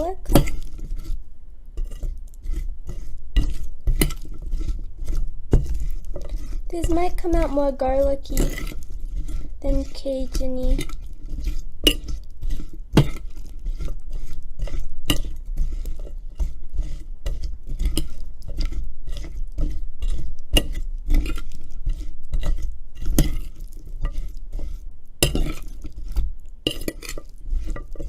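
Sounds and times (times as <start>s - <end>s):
utensil scraping and clinking bowl: 0.0s - 28.0s.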